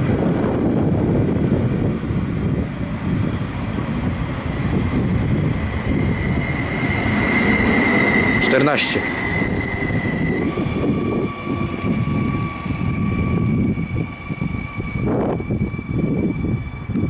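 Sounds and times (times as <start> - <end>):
electric train whine: 0.0 - 17.0
train wheels rumbling on rails: 0.0 - 17.0.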